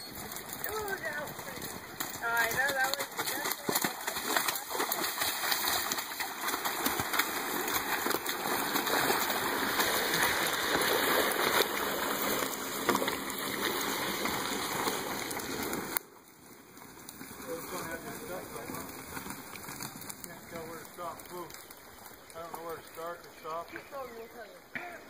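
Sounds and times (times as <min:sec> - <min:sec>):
log scraping over dirt and debris: 0:00.0 - 0:25.0.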